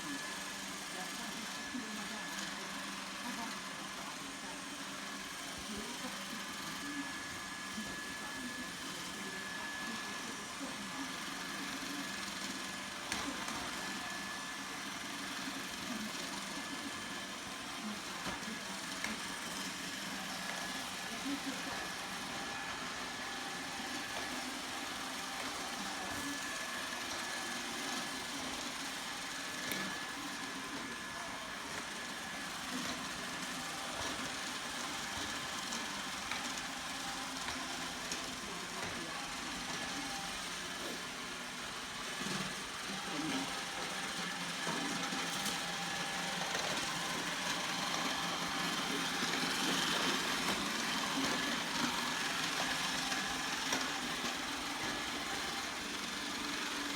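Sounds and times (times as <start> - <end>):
robot vacuum motor whir: 0.0 - 56.9.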